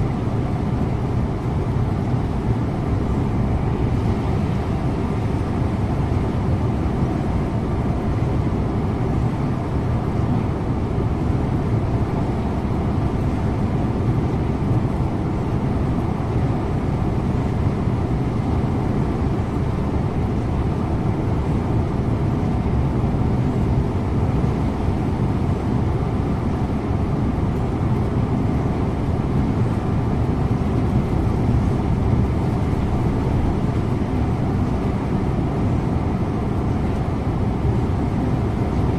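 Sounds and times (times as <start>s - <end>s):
bus engine and road drone: 0.0s - 38.9s.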